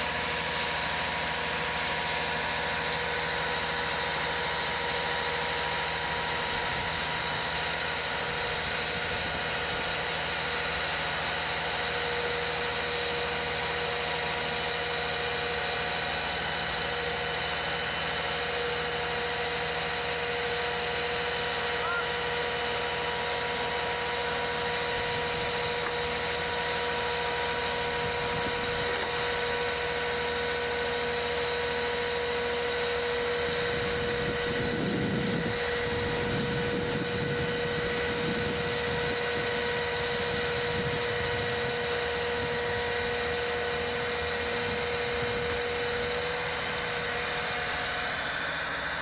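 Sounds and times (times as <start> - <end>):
constant whine: 0.0 - 49.0
heavy vehicle engine running: 0.0 - 49.0.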